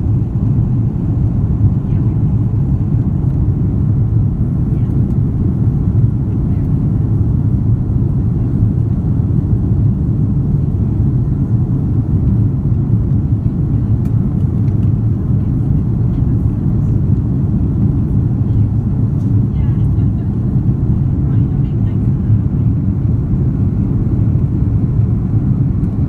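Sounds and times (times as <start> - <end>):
jet cabin engine drone: 0.0 - 26.0.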